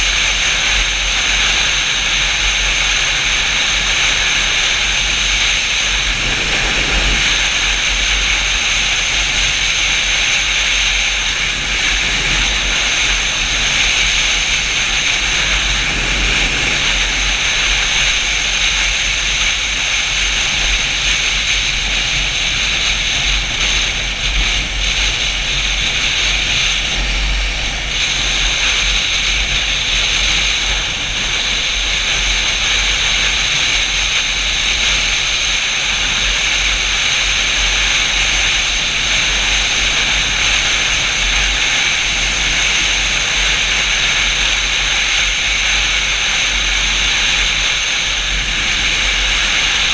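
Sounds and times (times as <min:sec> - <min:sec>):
wind noise on microphone: 0:00.0 - 0:49.9.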